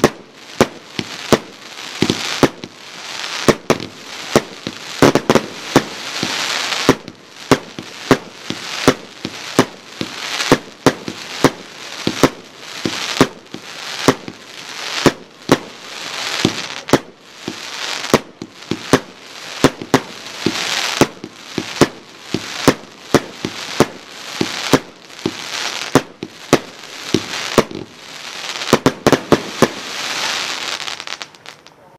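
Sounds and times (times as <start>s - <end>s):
crackling fizz of fireworks: 0.0s - 31.9s
fireworks bangs: 0.0s - 31.9s.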